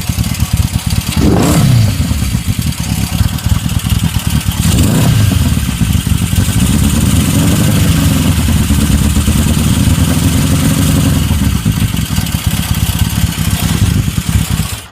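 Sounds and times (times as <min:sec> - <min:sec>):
motorcycle engine knocking: 0:00.0 - 0:14.9.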